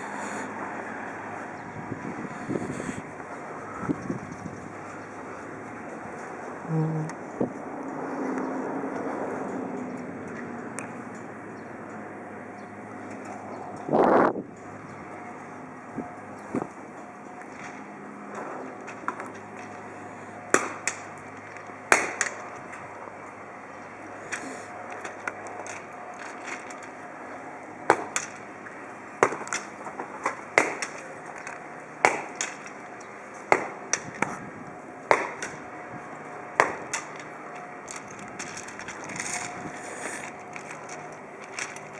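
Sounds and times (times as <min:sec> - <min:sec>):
steady background hum: 0:00.0 - 0:41.9.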